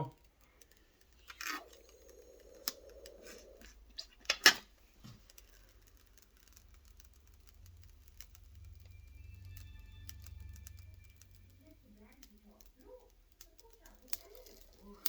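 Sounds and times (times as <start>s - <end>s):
plastic film peeling crackles: 0.1s - 15.0s.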